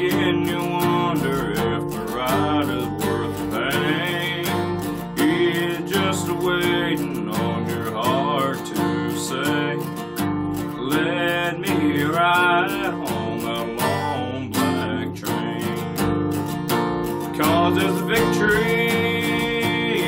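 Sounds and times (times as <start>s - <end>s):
man singing: 0.0s - 16.1s, 17.2s - 20.0s
acoustic guitar strumming: 0.0s - 20.0s.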